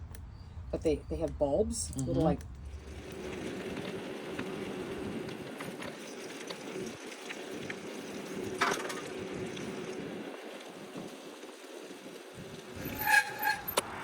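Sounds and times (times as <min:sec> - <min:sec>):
electric bike rolling: 0:01.9 - 0:14.0.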